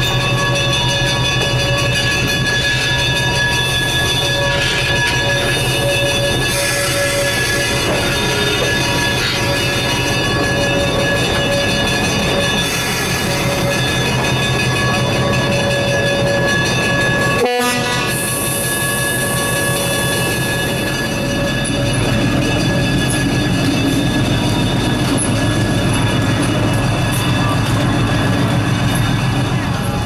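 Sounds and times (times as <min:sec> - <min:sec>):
diesel locomotive engine running: 0:00.0 - 0:30.0.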